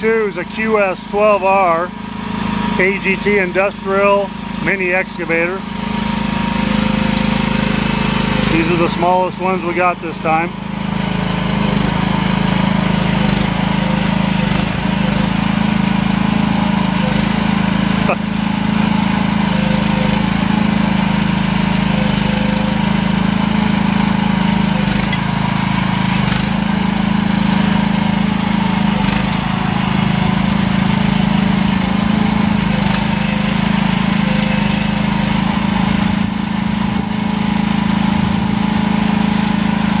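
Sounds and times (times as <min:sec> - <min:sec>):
excavator engine running: 0:00.0 - 0:40.0.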